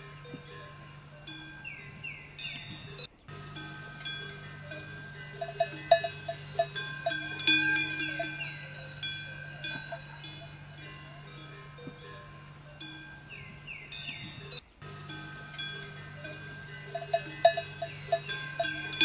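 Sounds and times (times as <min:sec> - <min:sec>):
small metal bells ringing: 0:00.0 - 0:19.0
steady low hum: 0:00.0 - 0:19.0.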